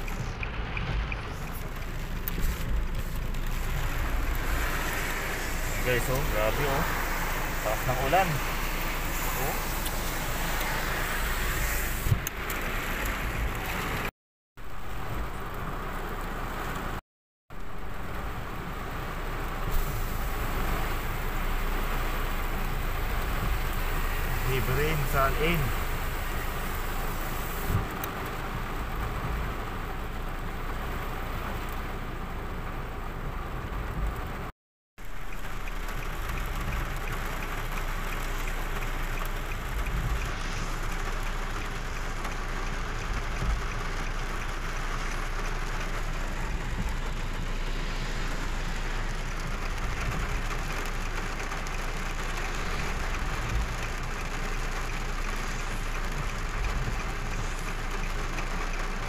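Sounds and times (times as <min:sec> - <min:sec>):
car driving rumble: 0:00.0 - 0:59.0
heavy rain on car roof: 0:00.0 - 0:59.0.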